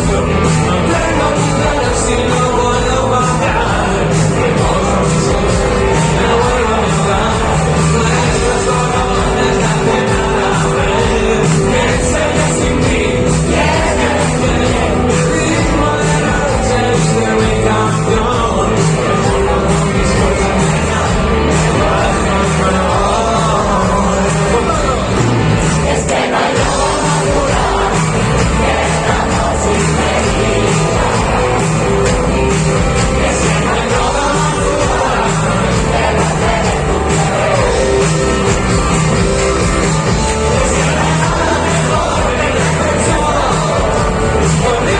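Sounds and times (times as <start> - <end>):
live rock band: 0.0 - 44.9
person singing: 0.0 - 44.9.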